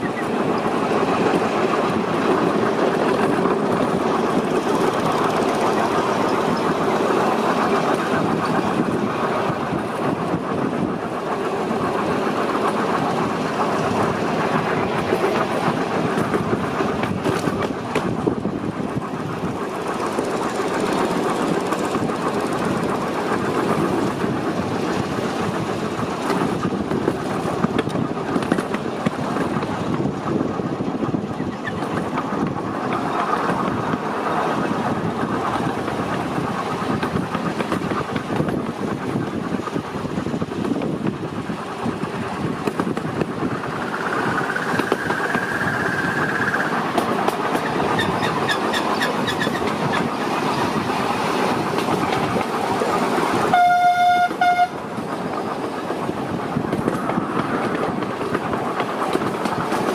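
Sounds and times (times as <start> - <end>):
wheels clicking on rails: 0.0 - 59.9.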